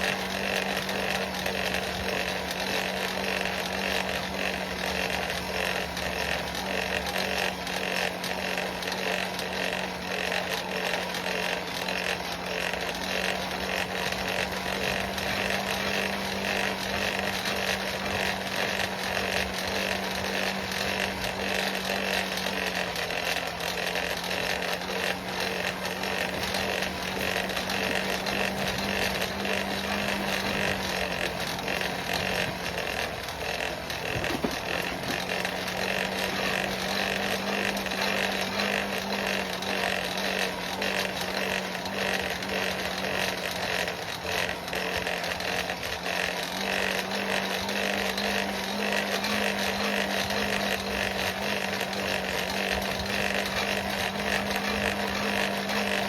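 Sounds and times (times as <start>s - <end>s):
forge blower rushing air: 0.0s - 56.0s.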